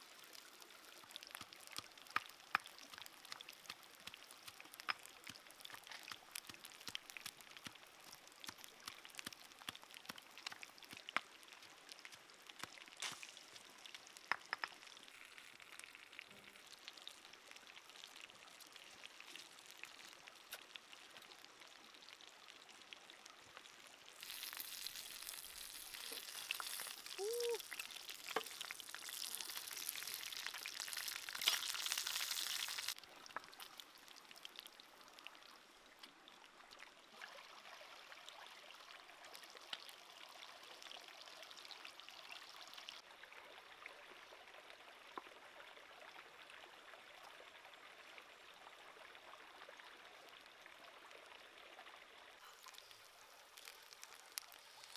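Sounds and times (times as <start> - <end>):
stream running over rocks: 0.0 - 54.9.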